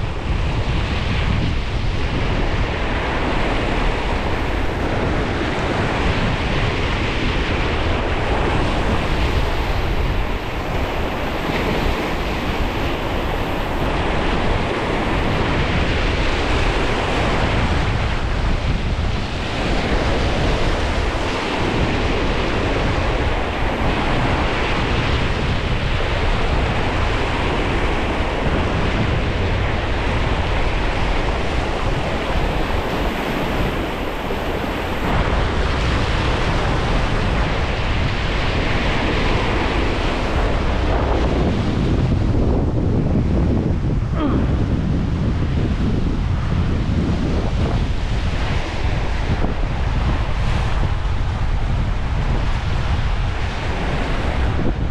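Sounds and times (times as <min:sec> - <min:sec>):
strong wind on microphone: 0:00.0 - 0:54.9.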